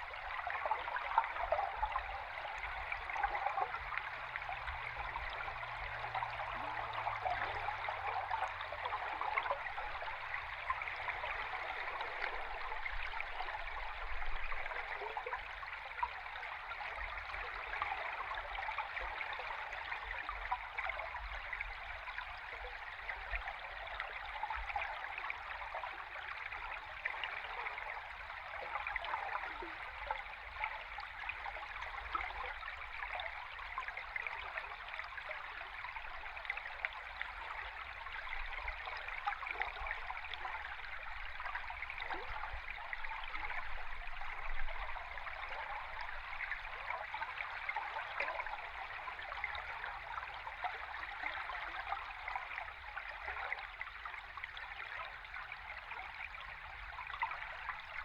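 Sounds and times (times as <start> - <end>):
underwater river rush with bubbling: 0.0 - 58.0.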